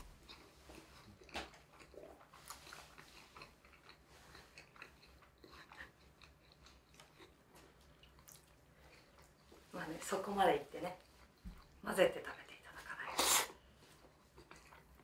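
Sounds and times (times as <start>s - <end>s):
man chewing food: 0.0s - 9.7s, 11.0s - 11.8s, 13.2s - 15.0s.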